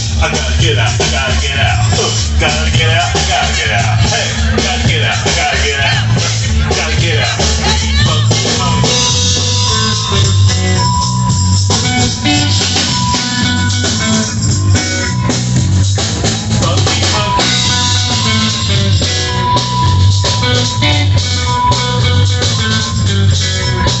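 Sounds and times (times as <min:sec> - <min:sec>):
drum kit beat: 0:00.0 - 0:24.0
electric guitar: 0:00.0 - 0:24.0
live rock band playing: 0:00.0 - 0:24.0.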